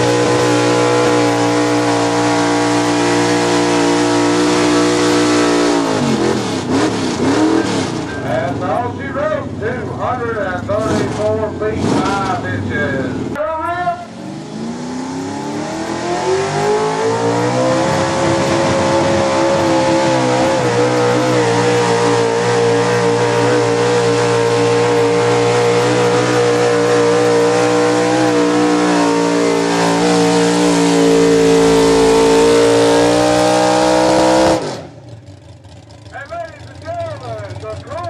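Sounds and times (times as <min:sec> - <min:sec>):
truck engine revving under load: 0:00.0 - 0:13.4, 0:14.0 - 0:38.0.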